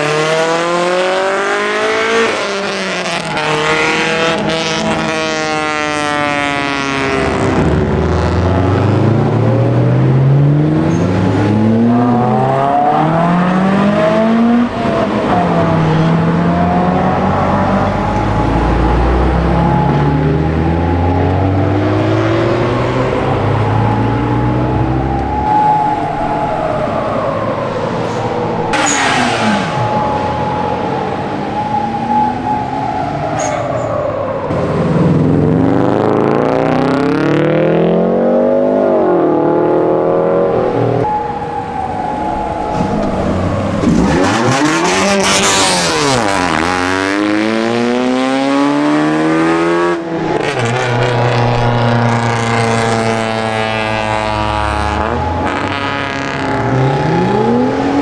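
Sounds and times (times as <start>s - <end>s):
car engines revving and accelerating: 0.0s - 58.0s.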